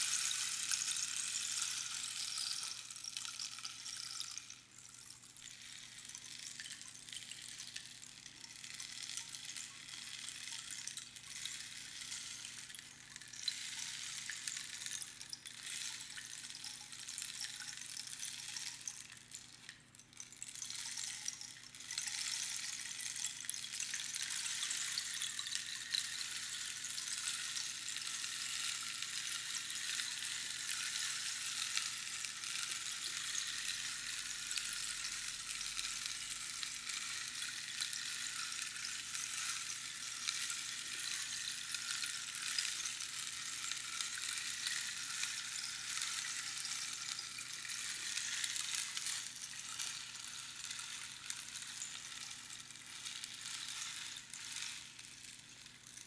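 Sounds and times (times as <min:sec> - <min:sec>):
rainstick trickling: 0:00.0 - 0:56.0.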